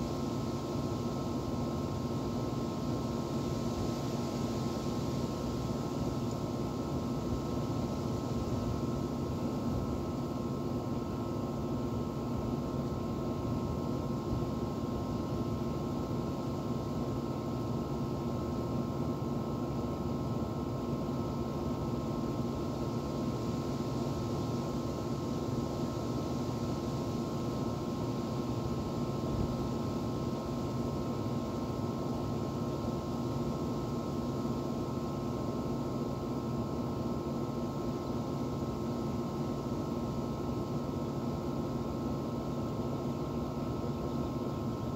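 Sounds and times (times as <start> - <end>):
air conditioner unit humming: 0.0 - 44.9.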